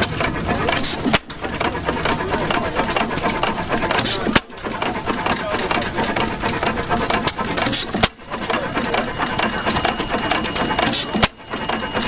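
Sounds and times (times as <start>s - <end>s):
stationary engine clattering: 0.0s - 12.0s.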